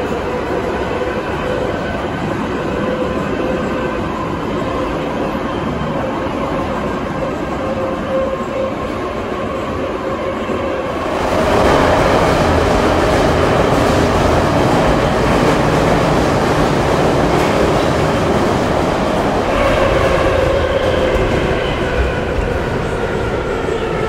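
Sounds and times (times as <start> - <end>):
metro wheels rumbling on rail: 0.0 - 24.0.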